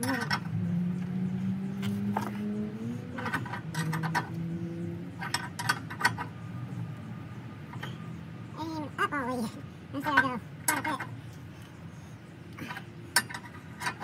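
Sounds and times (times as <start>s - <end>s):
low steady droning tone: 0.0s - 14.0s.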